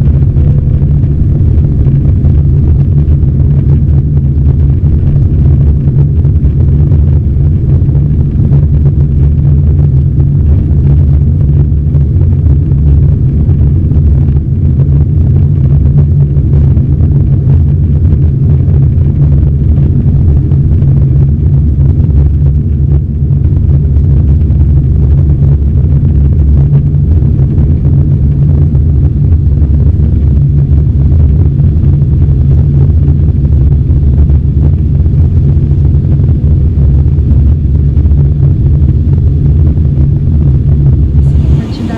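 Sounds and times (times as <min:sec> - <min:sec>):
jet engine roar in cabin: 0:00.0 - 0:41.9.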